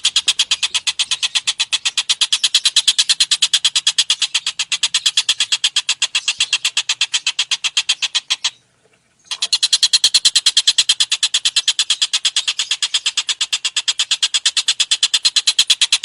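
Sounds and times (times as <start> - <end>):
songbird rasping chatter: 0.0 - 16.0.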